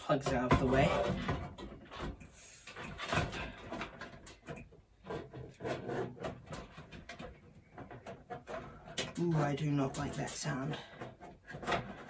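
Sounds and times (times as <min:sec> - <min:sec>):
cables rustling: 0:00.0 - 0:12.0.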